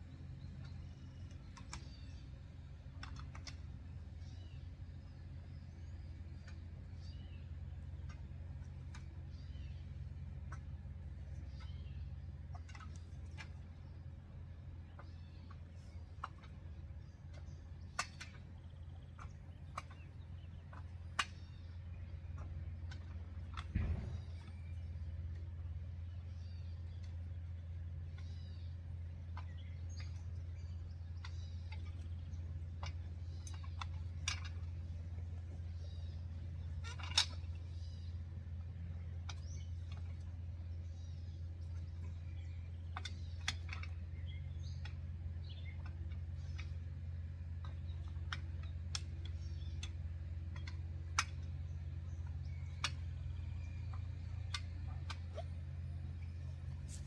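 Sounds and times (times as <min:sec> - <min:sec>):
steady low hum: 0:00.0 - 0:57.0
trampoline rods clicking: 0:00.2 - 0:57.0.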